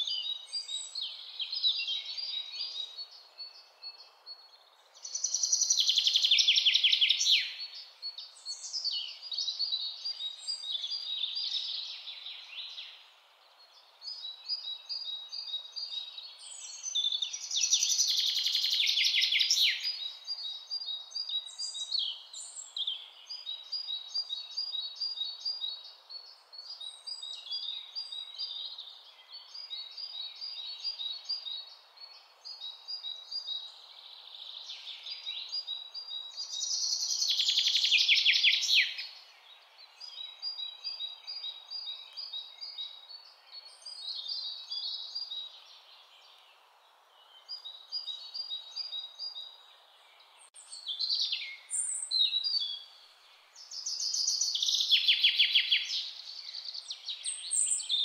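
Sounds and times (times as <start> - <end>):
birds chirping and singing: 0.0 - 46.4, 47.2 - 58.0
faint steady hiss: 0.0 - 58.0.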